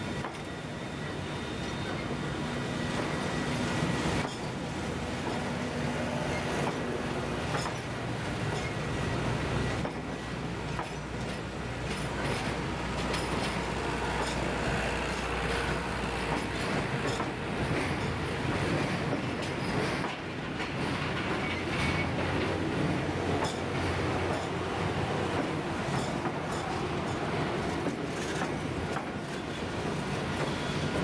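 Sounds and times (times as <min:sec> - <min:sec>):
train rolling rumble: 0:00.0 - 0:31.0.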